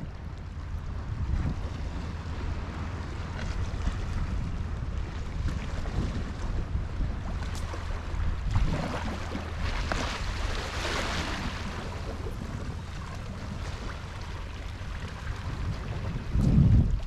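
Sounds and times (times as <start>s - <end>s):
sea water washing: 0.0s - 17.0s
wind rumbling on microphone: 0.0s - 17.0s.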